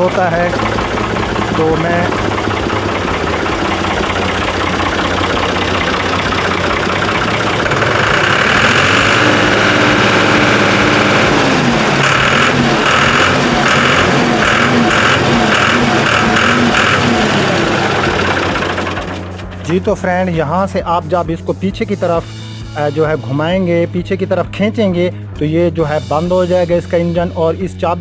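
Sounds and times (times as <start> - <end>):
tractor diesel engine: 0.0 - 22.7.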